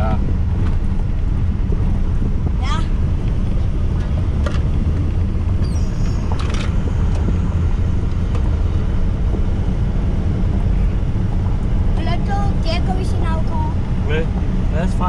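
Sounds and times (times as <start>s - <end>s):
truck engine and tyre rumble: 0.0s - 15.0s.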